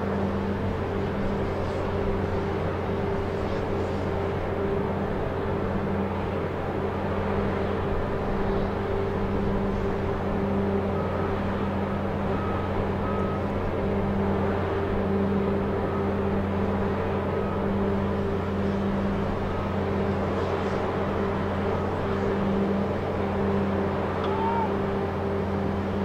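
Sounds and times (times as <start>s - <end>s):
heavy machinery humming: 0.0s - 26.0s.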